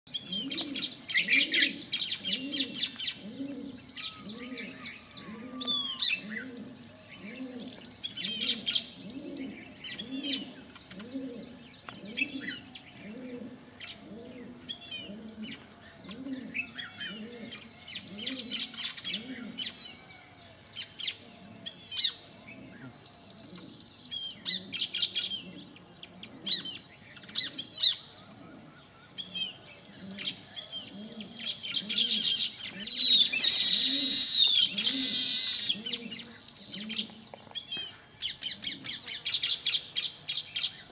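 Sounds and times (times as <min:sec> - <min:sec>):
birds chirping and calling: 0:00.1 - 0:40.9.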